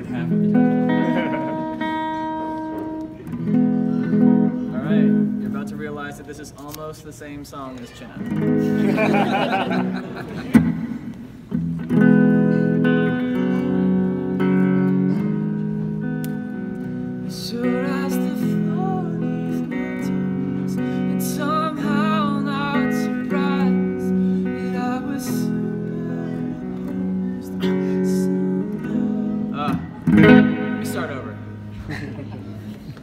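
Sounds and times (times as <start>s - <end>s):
electric guitar chords: 0.0s - 6.0s, 8.2s - 33.0s
wavering guitar melody: 0.0s - 6.4s, 8.1s - 33.0s.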